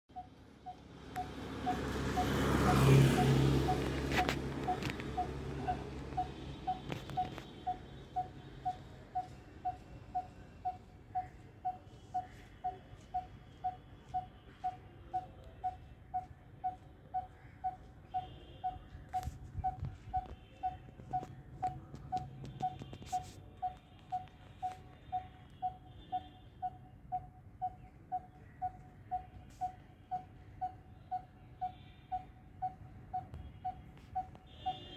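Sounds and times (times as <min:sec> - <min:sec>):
faint high bird chirps: 0:04.6 - 0:34.9.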